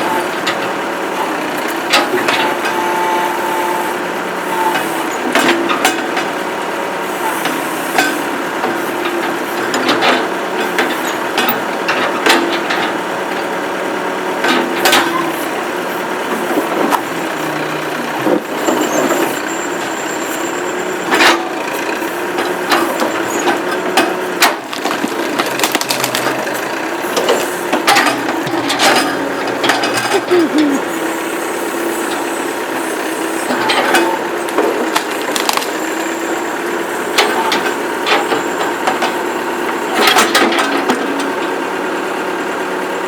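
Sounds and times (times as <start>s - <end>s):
backhoe engine droning: 0.0s - 43.0s.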